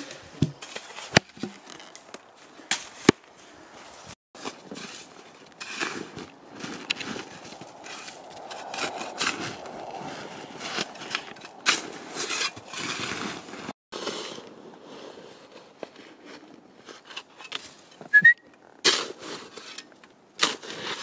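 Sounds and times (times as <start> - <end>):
snow shovel scraping and crunching: 0.5 - 21.0.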